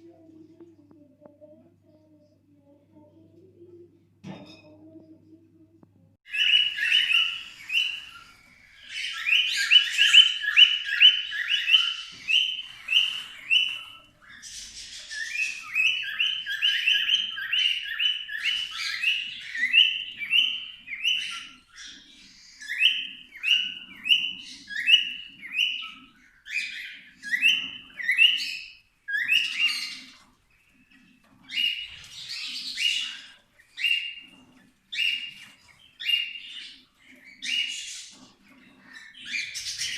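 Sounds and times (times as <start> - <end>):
cockatiels chirping: 6.3 - 39.9.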